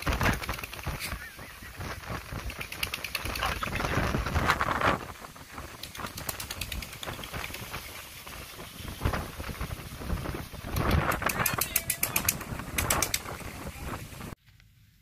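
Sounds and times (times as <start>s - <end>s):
scattered crackling: 0.0s - 14.4s
wind gusting against microphone: 0.0s - 14.4s.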